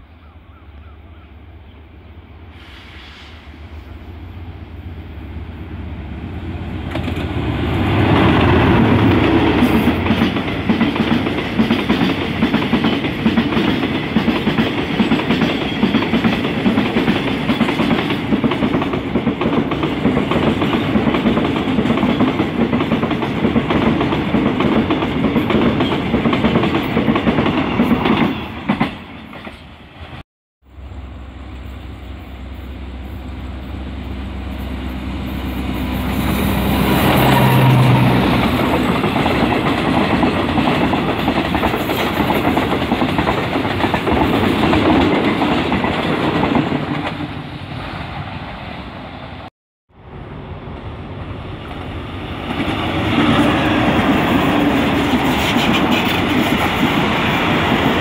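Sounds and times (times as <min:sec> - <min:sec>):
diesel locomotive engine: 0:00.0 - 0:58.0
train wheels rattling on rails: 0:02.5 - 0:29.8, 0:34.4 - 0:48.8, 0:51.6 - 0:58.0.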